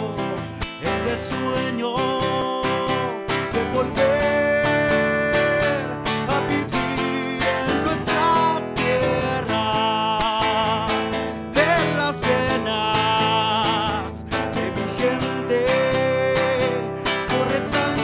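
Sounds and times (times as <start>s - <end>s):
acoustic guitar strummed and picked: 0.0s - 18.0s
person singing with vibrato: 0.0s - 18.0s.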